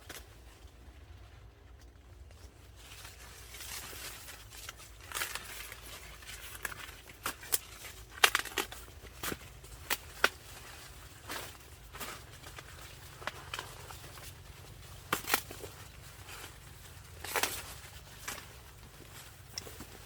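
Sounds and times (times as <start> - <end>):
dry corn husks rustling: 0.0 - 20.0.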